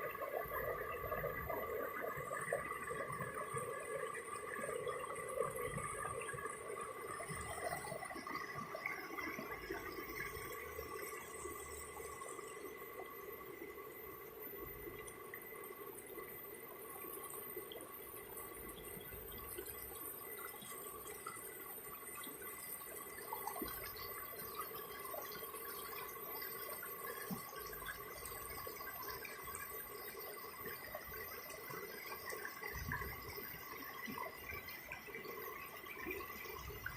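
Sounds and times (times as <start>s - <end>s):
water gurgles and trickles: 0.0s - 36.9s.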